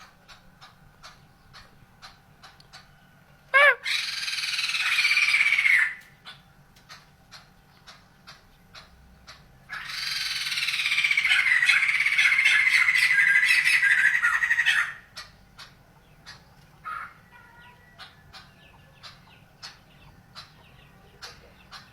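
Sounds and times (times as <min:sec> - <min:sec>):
bird calling: 0:00.0 - 0:21.9
bird chattering: 0:00.0 - 0:21.9.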